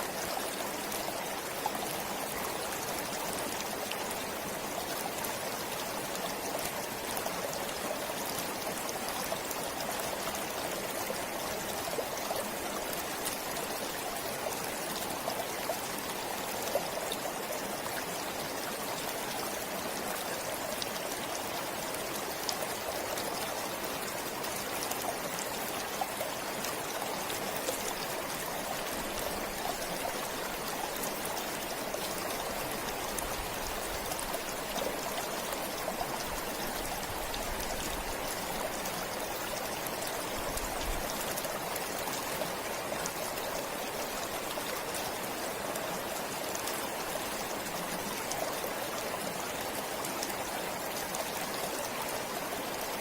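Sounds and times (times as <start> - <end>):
stream flowing with splashing: 0.0 - 53.0.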